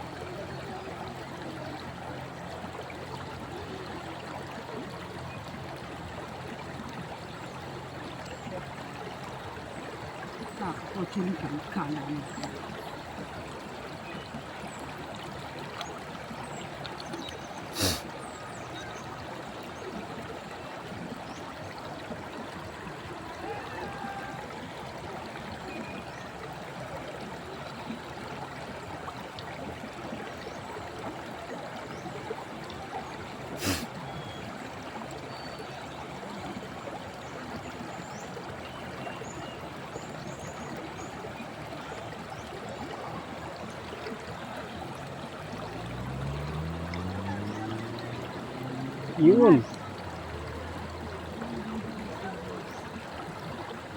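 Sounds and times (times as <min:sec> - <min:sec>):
river water flowing over stones: 0:00.0 - 0:53.9.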